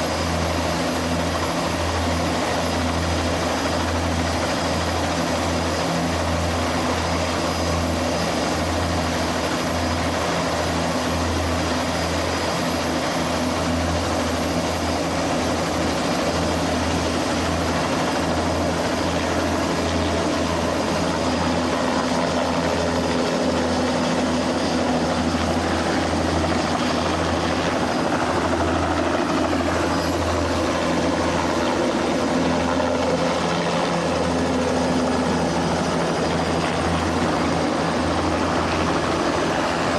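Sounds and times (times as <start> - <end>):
helicopter rotor throbbing: 0.0 - 39.9
high turbine whine: 0.0 - 39.9.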